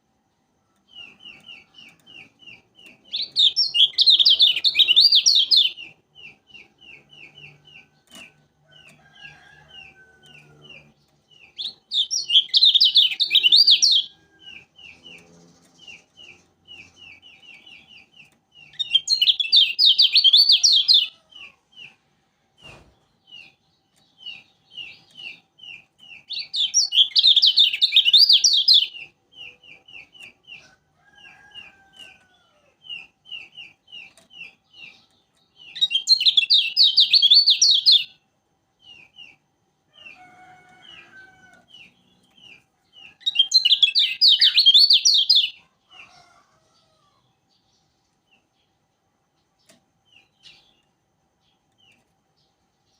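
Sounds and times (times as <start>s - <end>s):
bird warbling song: 0.8s - 22.0s, 23.0s - 38.2s, 40.0s - 46.4s.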